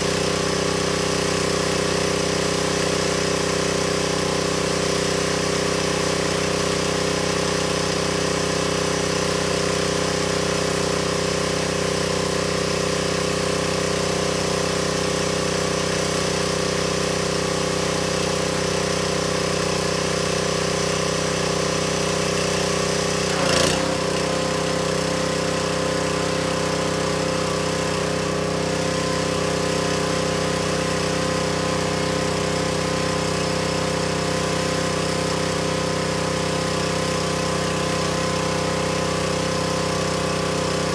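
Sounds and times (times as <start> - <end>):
pressure washer engine running: 0.0 - 40.9.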